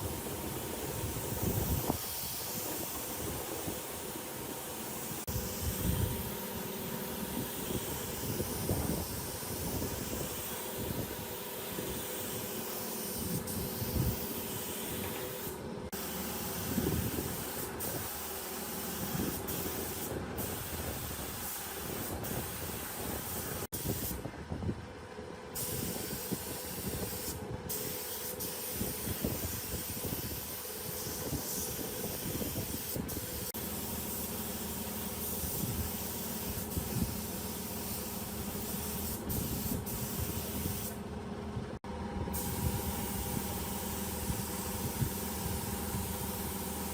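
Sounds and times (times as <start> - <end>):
steady spraying hiss: 0.0 - 24.3, 25.6 - 41.0, 42.4 - 46.9.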